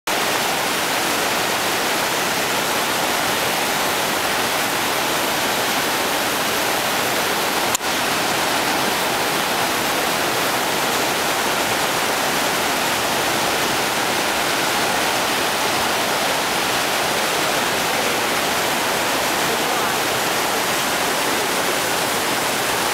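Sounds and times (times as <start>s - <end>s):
river rushing over rocks: 0.1s - 22.9s.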